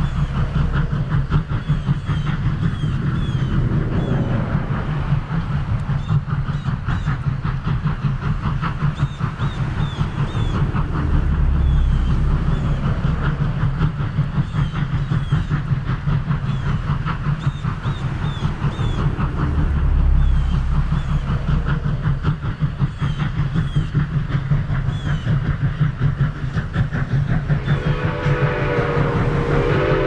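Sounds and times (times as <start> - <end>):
steam locomotive exhaust beats: 0.0 - 30.0
train wheels clattering on rails: 0.0 - 30.0.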